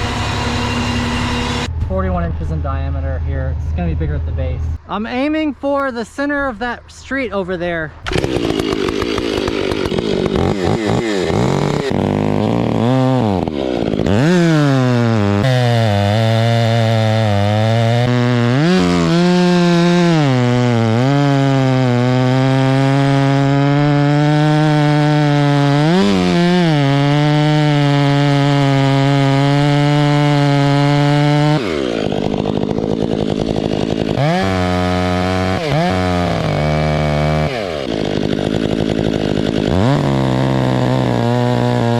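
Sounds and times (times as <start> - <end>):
chainsaw cutting wood: 0.0 - 1.7, 8.0 - 41.9.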